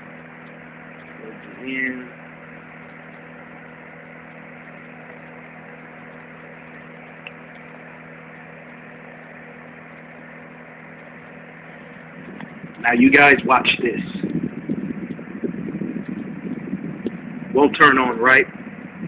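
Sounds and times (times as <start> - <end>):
fan heater whirring: 0.0 - 19.0
low electrical hum: 0.0 - 19.0.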